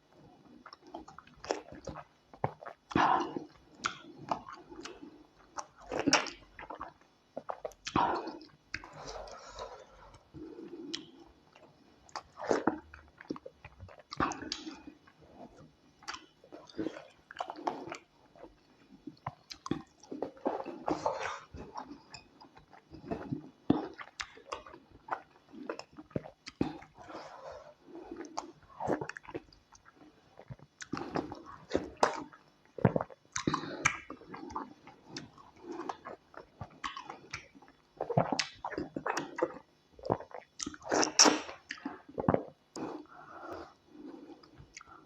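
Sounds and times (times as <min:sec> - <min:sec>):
mouth chewing and smacking: 0:00.6 - 0:45.0.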